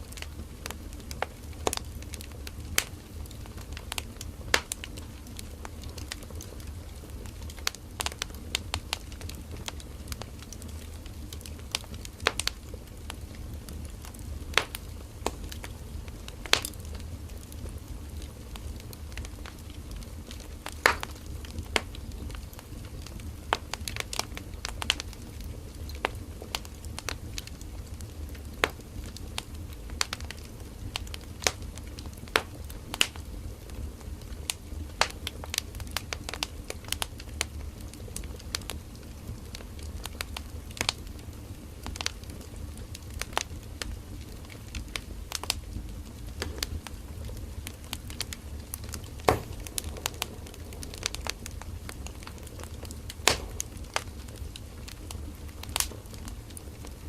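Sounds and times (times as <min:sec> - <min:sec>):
firewood crackling and popping: 0:00.0 - 0:57.0
low fire rumble: 0:00.0 - 0:57.0.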